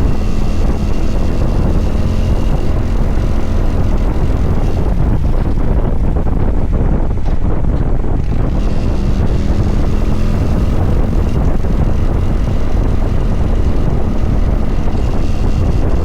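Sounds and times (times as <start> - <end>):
motorcycle engine cruising: 0.0 - 16.0
wind rushing over microphone: 0.0 - 16.0.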